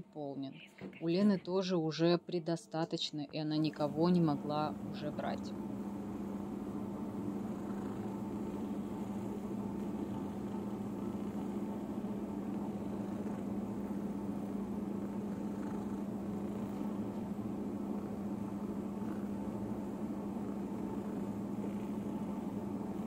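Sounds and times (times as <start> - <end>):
steady mechanical hum: 0.0 - 23.0
cat purring: 3.4 - 23.0.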